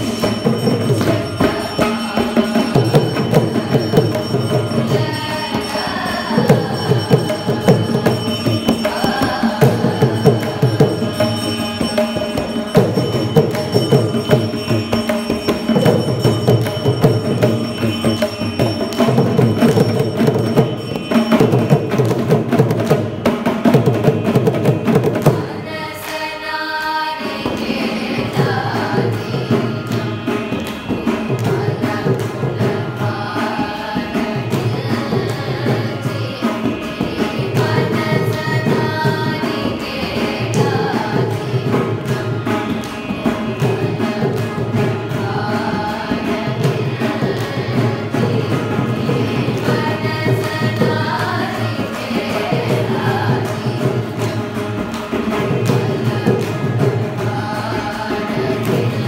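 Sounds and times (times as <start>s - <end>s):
group singing in unison: 0.0s - 59.0s.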